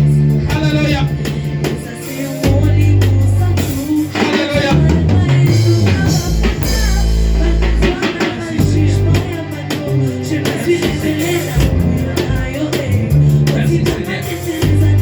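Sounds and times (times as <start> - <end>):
drum kit beat: 0.0 - 15.0
electric bass line: 0.0 - 15.0
person singing: 0.0 - 15.0.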